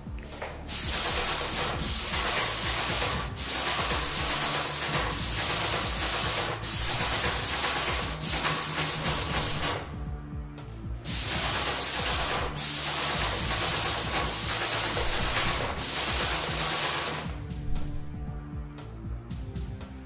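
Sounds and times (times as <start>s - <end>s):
paint sprayer hissing: 0.2s - 9.9s, 11.0s - 18.2s.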